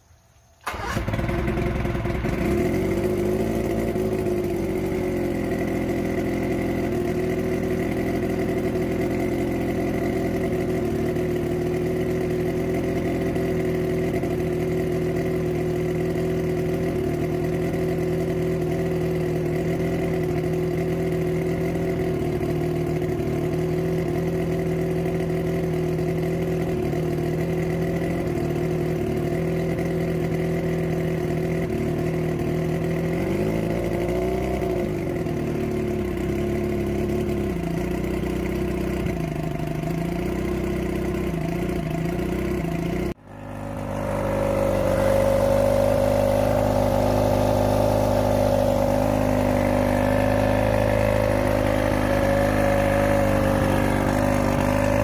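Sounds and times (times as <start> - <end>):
outboard engine idling: 0.6 - 55.0.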